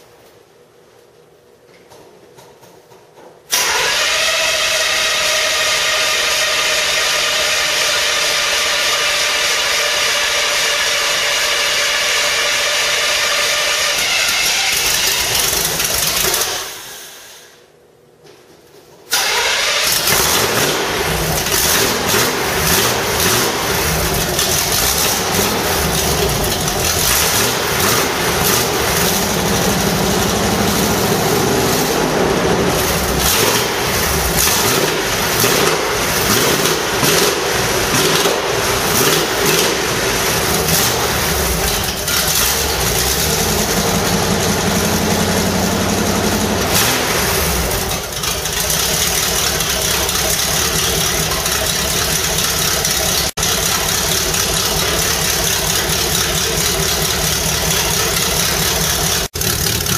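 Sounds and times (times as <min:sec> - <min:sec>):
car engine starting and revving: 0:03.5 - 0:17.0, 0:19.1 - 0:59.9.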